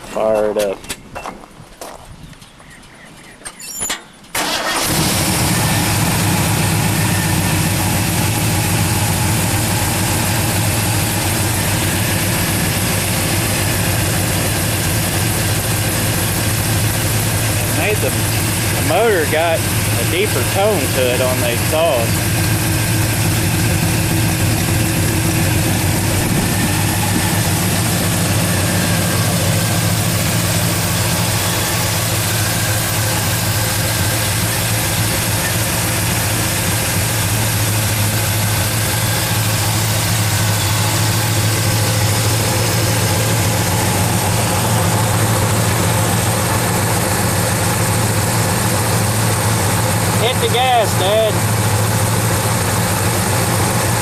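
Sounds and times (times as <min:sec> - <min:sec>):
pickup engine idling: 0:04.3 - 0:54.0.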